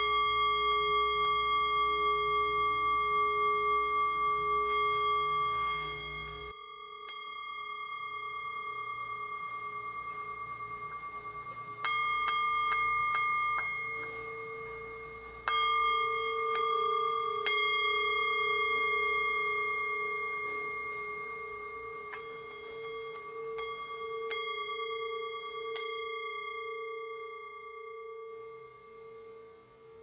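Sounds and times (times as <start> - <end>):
struck metal bowls ringing: 0.0 - 30.0.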